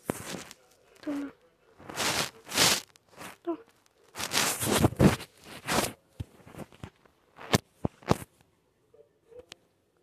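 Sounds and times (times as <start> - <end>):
fabric rustling against microphone: 0.0 - 8.5.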